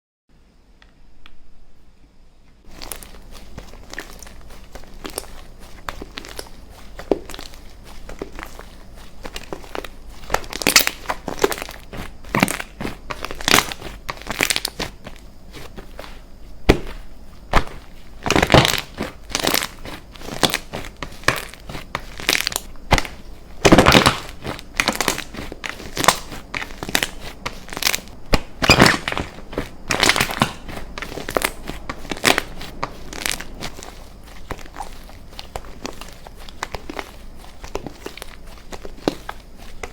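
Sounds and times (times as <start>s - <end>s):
slime squished by hand: 2.7s - 39.9s.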